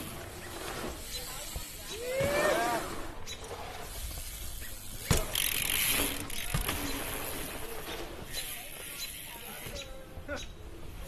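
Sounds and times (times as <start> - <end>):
bike tyres rolling on dirt: 0.0 - 11.0.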